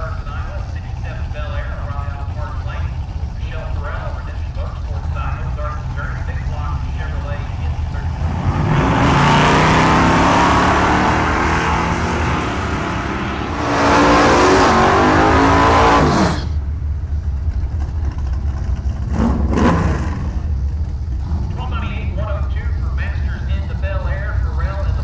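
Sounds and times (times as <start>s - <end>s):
drag car engines at full throttle: 0.0s - 25.0s
engine throttle blips: 0.0s - 25.0s.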